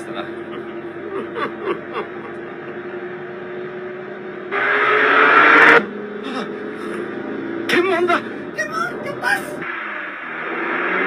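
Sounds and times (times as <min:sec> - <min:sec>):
car engine droning: 0:00.0 - 0:11.0
rush of car noise: 0:00.0 - 0:11.0.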